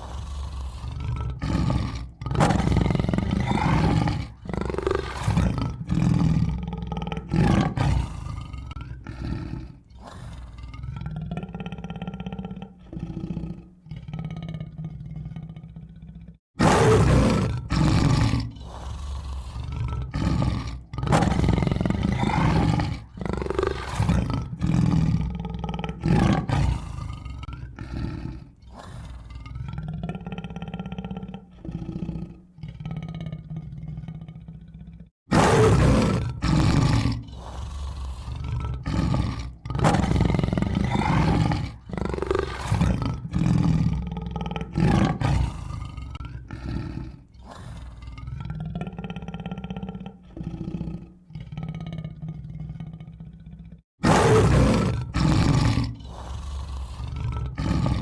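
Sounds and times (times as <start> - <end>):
tiger roaring and growling: 0.0 - 58.0.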